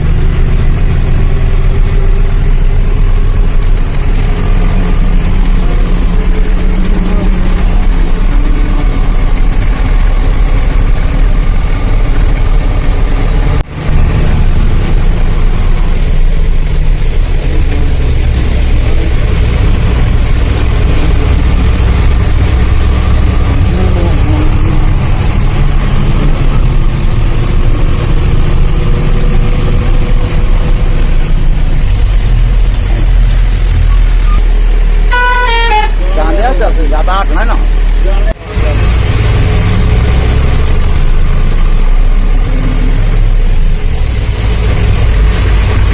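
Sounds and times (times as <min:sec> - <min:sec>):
road noise: 0:00.0 - 0:45.9
vehicle engine running: 0:00.0 - 0:45.9.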